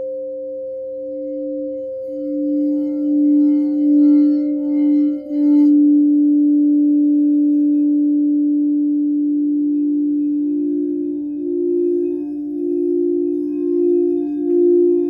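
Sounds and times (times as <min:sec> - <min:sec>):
crystal singing bowl hum: 0:00.0 - 0:15.0
higher singing bowl tone: 0:00.0 - 0:15.0.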